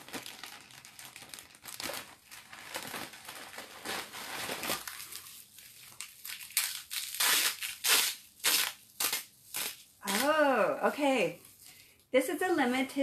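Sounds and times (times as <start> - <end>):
plastic and bubble wrap crinkling: 0.0 - 13.0.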